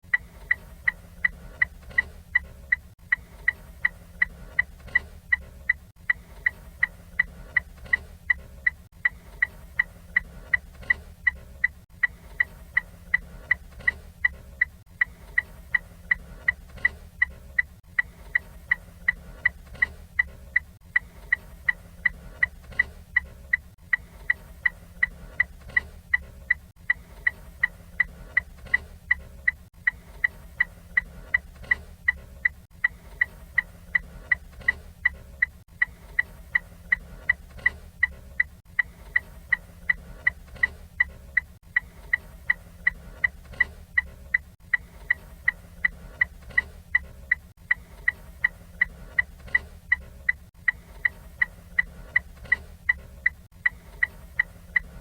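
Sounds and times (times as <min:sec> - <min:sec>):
low steady hum: 0:00.0 - 0:55.0
turn signal ticking: 0:00.0 - 0:55.0.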